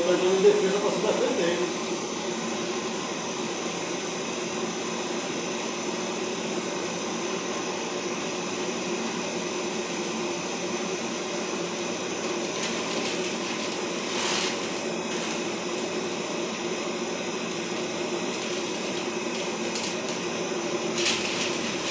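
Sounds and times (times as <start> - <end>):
dog dryer blower whooshing hum: 0.0 - 21.9.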